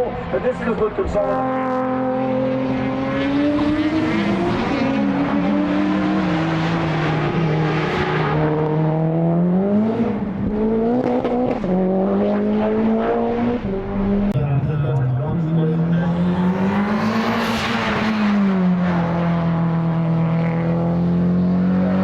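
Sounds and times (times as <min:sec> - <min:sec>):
race car engine revving: 0:00.2 - 0:22.0.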